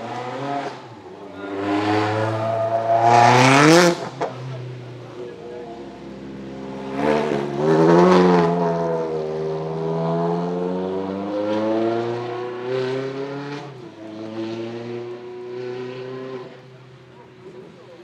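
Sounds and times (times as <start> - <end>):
sports car engine accelerating: 0.0 - 16.6.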